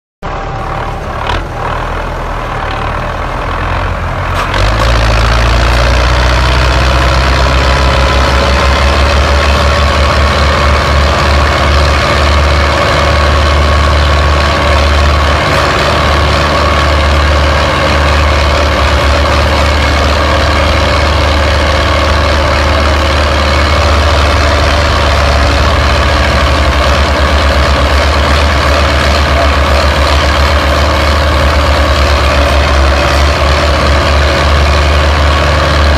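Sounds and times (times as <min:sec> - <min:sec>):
tractor diesel engines droning: 0:00.2 - 0:35.9.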